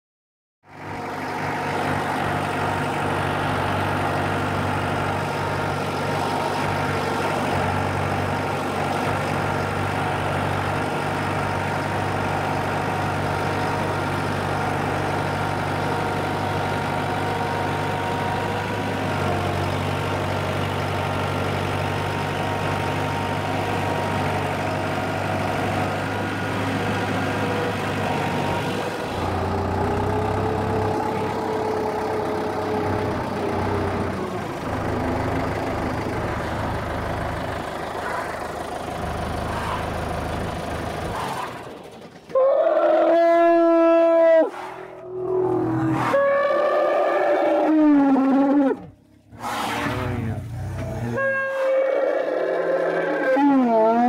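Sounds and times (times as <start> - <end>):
tractor engine idling: 0.7 - 43.0, 50.0 - 51.5.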